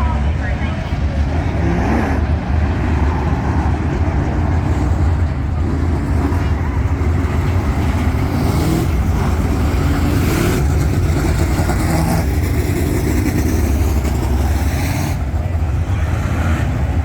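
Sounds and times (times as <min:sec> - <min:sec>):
race truck engines: 0:00.0 - 0:17.0.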